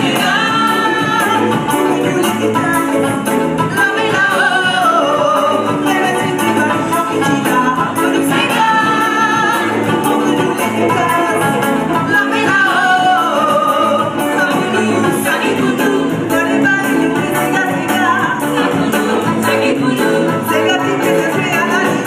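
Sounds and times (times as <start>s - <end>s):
bass: 0.0s - 22.0s
electric guitars: 0.0s - 22.0s
woman singing: 0.0s - 22.0s.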